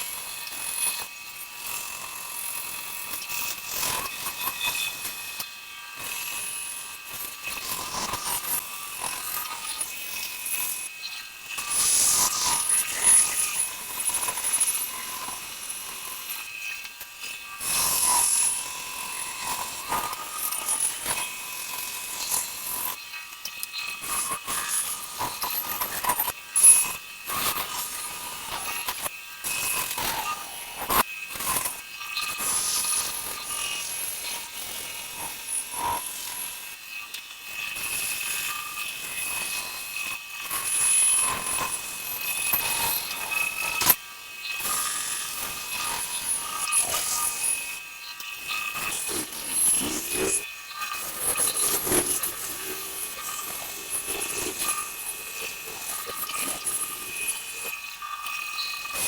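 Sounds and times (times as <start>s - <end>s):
power saw cutting wood: 0.0s - 59.0s.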